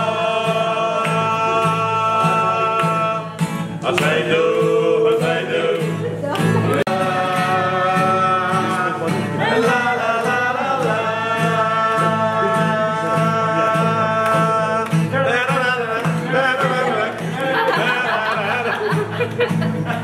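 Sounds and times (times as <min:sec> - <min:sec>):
person singing: 0:00.0 - 0:20.0
strummed acoustic guitar: 0:00.0 - 0:20.0.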